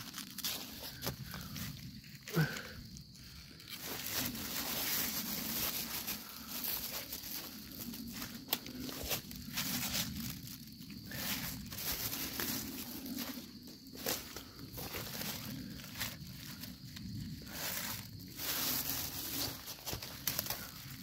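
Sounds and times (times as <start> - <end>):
dry leaves rustling and crunching: 0.0 - 2.6, 3.6 - 21.0.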